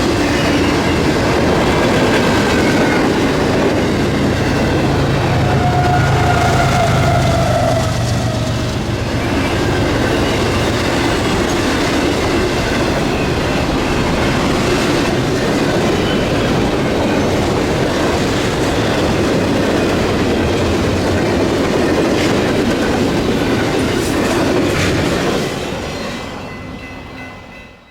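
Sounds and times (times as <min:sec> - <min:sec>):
sharp clicks of train wheels: 0:00.0 - 0:26.4
steel wheels rumbling on rails: 0:00.0 - 0:27.9.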